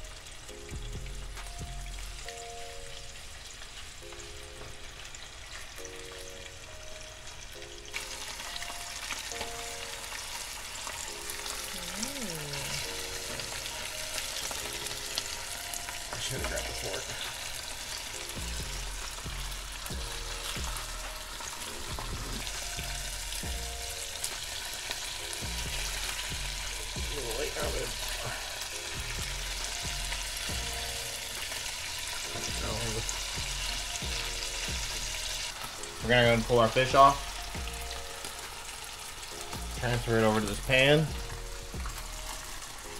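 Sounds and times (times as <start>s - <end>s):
fish frying in hot oil: 0.0s - 42.9s.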